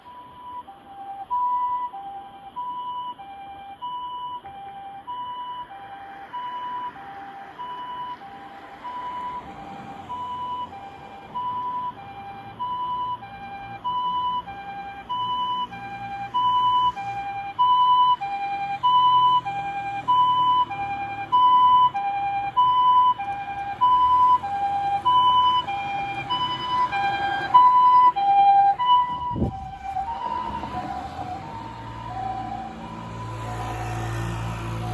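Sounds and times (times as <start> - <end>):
two-tone siren: 0.0 - 34.9
vehicle rumble: 0.0 - 34.9.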